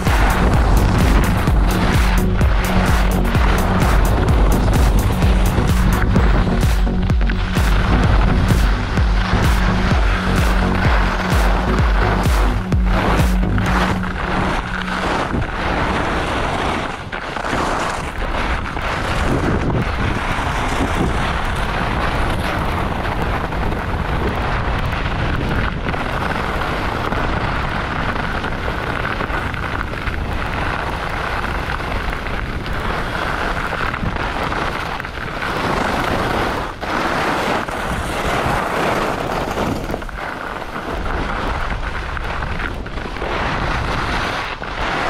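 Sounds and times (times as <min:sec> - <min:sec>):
skis scraping over hard snow: 0:00.0 - 0:45.0
wind buffeting microphone: 0:00.0 - 0:45.0.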